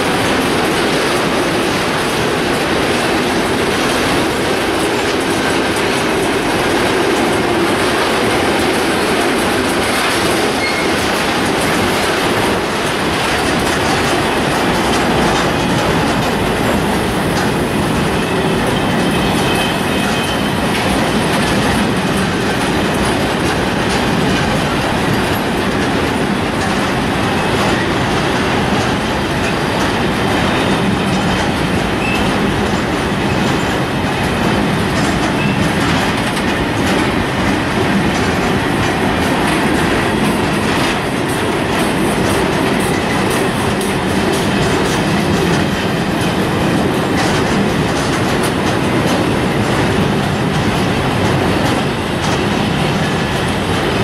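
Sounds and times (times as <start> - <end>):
clattering over rail joints: 0.0 - 54.0
steel wheels rumbling on rails: 0.0 - 54.0.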